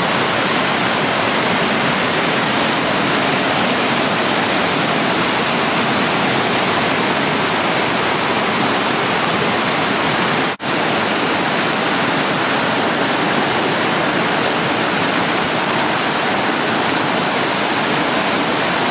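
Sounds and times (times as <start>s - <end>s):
floodwater rushing: 0.0s - 18.9s.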